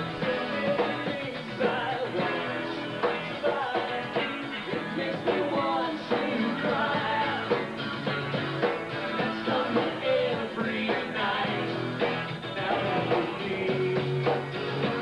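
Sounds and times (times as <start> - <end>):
person singing: 0.0 - 7.6, 9.2 - 11.9, 12.5 - 14.4
bass guitar: 0.0 - 15.0
drums: 0.0 - 15.0
electric guitars: 0.0 - 15.0.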